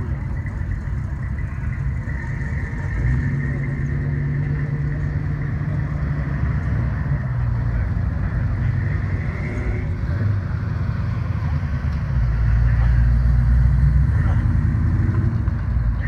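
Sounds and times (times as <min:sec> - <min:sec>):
vehicle engines driving past: 0:00.0 - 0:16.0.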